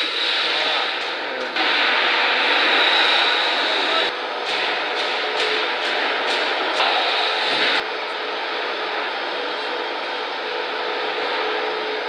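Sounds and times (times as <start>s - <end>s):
laser cutting machine rushing: 0.0s - 12.0s.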